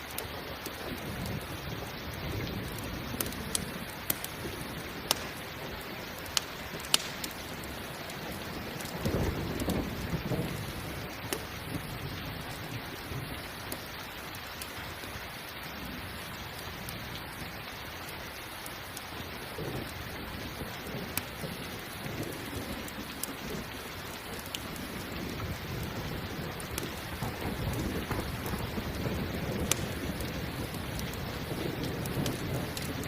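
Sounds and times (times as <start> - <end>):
campfire crackles: 0.0 - 33.0
steady rain: 0.0 - 33.0
low rolling thunder: 0.8 - 13.7, 19.2 - 33.0.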